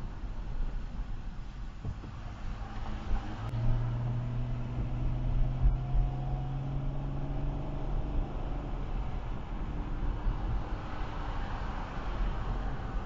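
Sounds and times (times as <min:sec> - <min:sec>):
car engine drone from inside: 0:00.0 - 0:13.0
road noise: 0:00.0 - 0:13.0.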